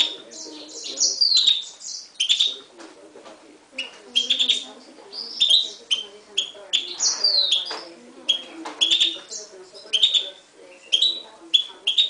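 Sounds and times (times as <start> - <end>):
finch twittering and trills: 0.0 - 2.8, 3.7 - 12.0.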